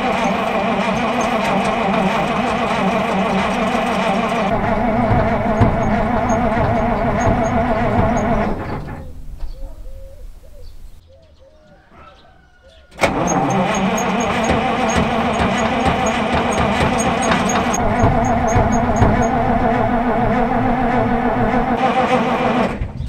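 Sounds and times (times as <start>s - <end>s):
truck engine running: 0.0s - 11.0s, 12.9s - 23.0s.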